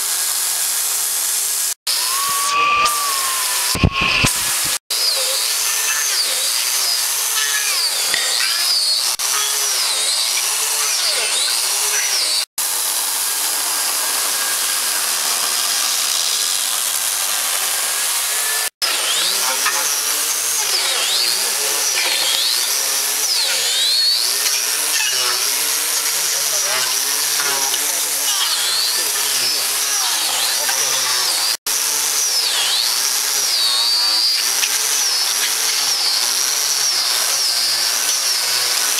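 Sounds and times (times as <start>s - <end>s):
angle grinder cutting wood: 0.0s - 38.9s.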